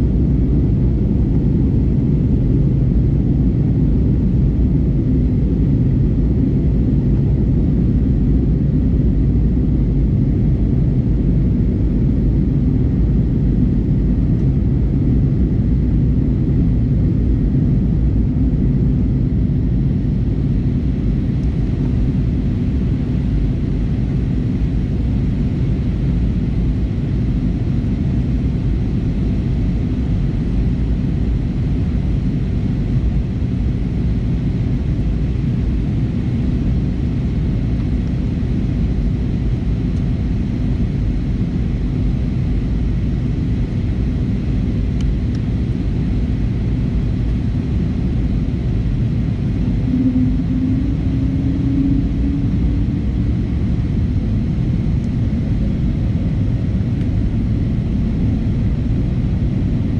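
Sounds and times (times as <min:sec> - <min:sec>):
airplane cabin rumble: 0:00.0 - 0:59.9
low hum: 0:00.0 - 0:59.9.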